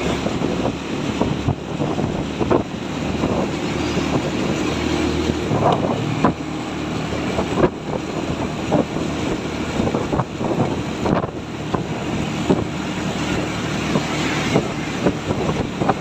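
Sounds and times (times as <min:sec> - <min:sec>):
truck engine running: 0:00.0 - 0:16.0
wind buffeting microphone: 0:00.0 - 0:16.0.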